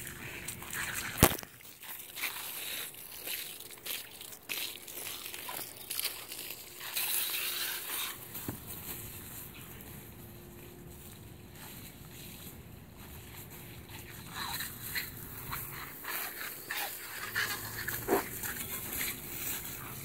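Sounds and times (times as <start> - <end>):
garden hose spraying water: 0.0 - 10.3, 11.0 - 20.0.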